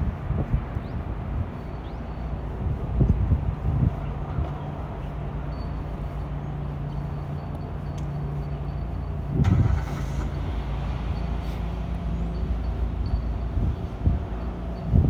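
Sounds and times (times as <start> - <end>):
louder vehicle rumble: 0.0 - 15.0
traffic engine hum: 0.0 - 15.0.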